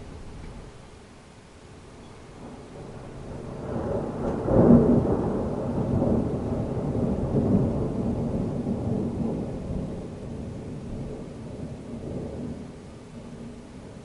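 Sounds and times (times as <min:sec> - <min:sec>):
thunder rumbling: 0:00.0 - 0:01.2, 0:02.3 - 0:14.0.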